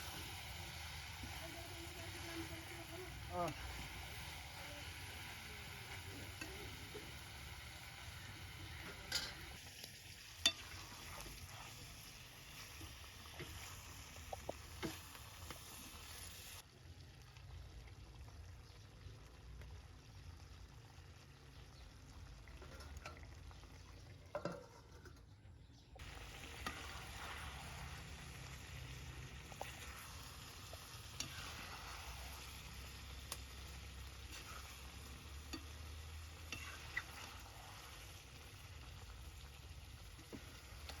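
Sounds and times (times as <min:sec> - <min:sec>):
curry sizzling in a pan: 0:00.0 - 0:24.8, 0:26.0 - 0:41.0.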